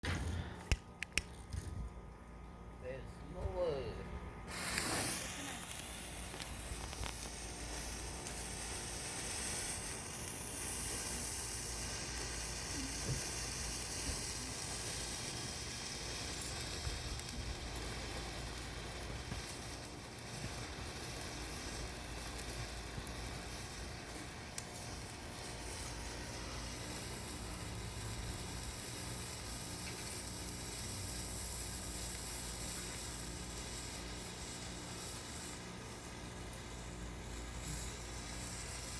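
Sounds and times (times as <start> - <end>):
sparkler hissing and sizzling: 0.0 - 1.8, 3.6 - 38.9.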